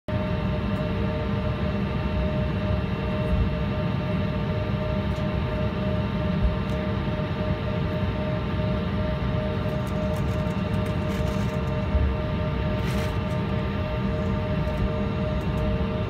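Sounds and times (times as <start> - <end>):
jet engine whine and rumble: 0.1 - 16.0.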